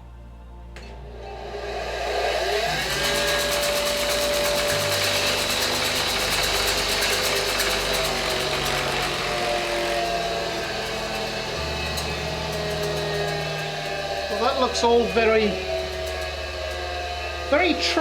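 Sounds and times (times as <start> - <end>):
disc sander motor whining: 1.0 - 18.0.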